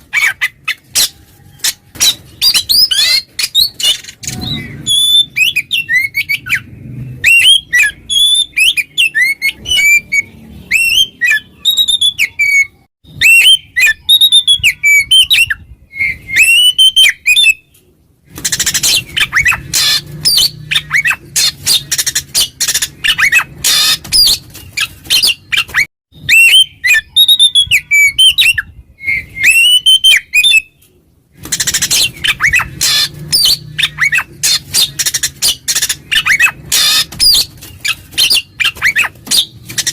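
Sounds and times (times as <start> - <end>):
songbird whistling and chattering: 0.1 - 17.7, 18.4 - 30.8, 31.4 - 39.9.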